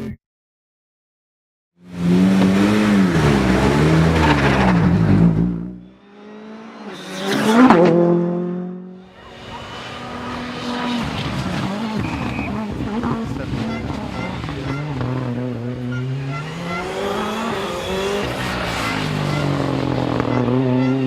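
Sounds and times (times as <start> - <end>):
engine approaching: 1.8 - 21.0
rally car engine revving hard: 1.8 - 21.0
car passing at speed: 1.9 - 20.8.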